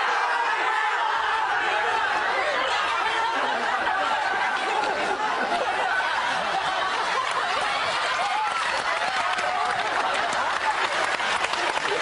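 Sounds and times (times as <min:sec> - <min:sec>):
crowd laughing and chattering: 0:00.0 - 0:12.0.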